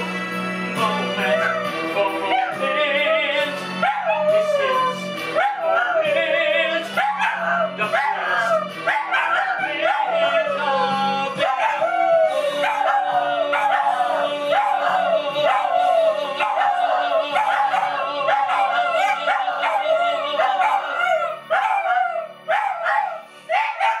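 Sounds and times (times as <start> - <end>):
backing music: 0.0 - 24.0
dogs howling: 1.2 - 24.0.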